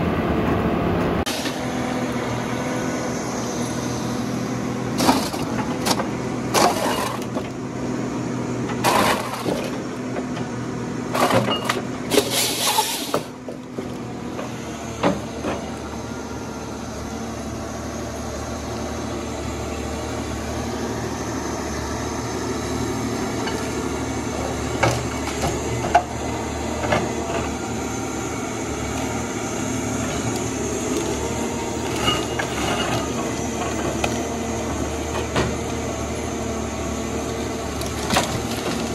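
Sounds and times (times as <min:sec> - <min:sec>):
harvester machine running: 0:00.0 - 0:38.9.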